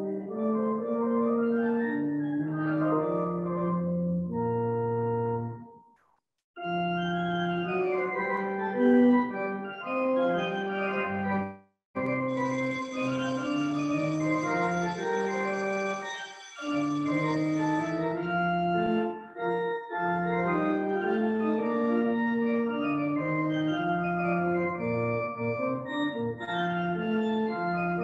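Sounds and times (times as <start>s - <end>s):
pipe organ playing chords: 0.0s - 5.7s, 6.6s - 28.0s.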